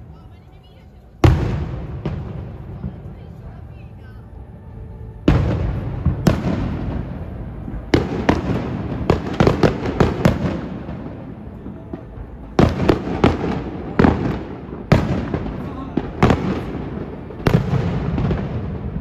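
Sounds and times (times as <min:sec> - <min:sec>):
fireworks bangs and cracks: 0:01.2 - 0:03.6, 0:05.2 - 0:19.0
rumbling echoes: 0:01.2 - 0:19.0.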